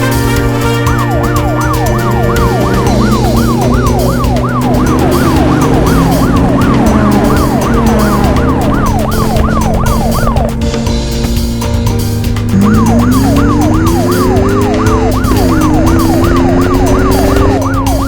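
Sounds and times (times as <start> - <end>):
siren wailing: 0.0 - 11.4, 12.5 - 18.0
background music with beat: 0.0 - 18.0.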